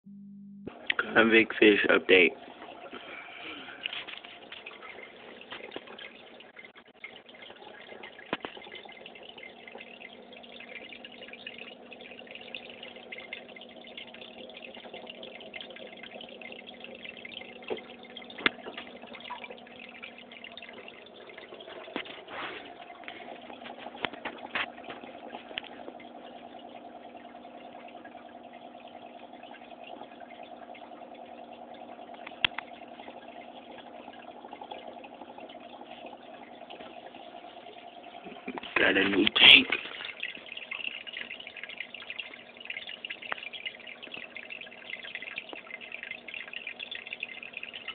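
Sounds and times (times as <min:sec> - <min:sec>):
aquarium water trickling and splashing: 0:00.7 - 0:47.9.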